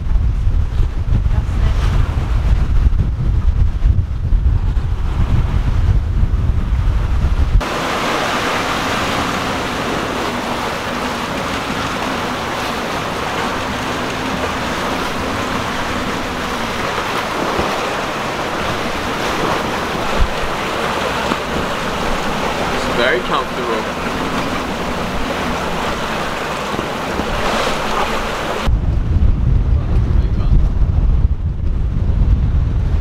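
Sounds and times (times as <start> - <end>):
water rushing along a hull: 0.0 - 33.0
wind buffeting microphone: 0.0 - 33.0.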